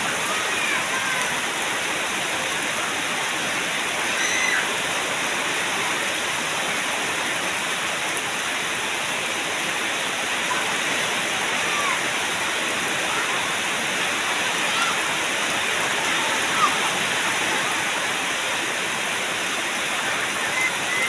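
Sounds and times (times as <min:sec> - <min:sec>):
heavy rain on puddles: 0:00.0 - 0:21.0.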